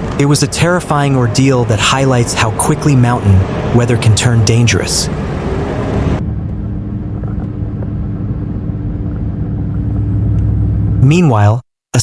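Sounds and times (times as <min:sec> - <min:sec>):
motor vehicle rumbling: 0:00.0 - 0:11.2.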